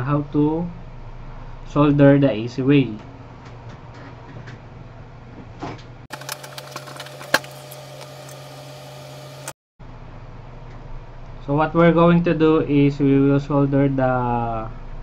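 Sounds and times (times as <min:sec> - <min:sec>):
low hum: 0:00.0 - 0:04.0, 0:06.0 - 0:15.0.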